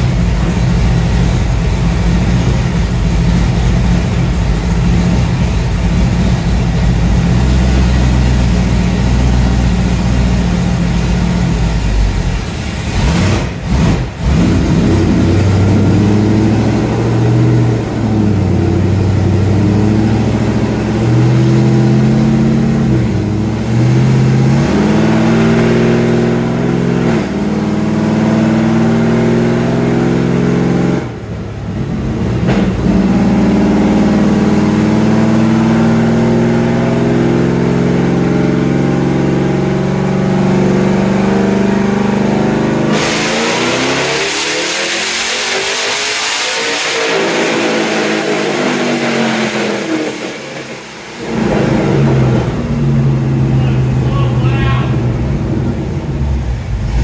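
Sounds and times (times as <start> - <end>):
car engine revving on a dyno: 0.0 - 57.0.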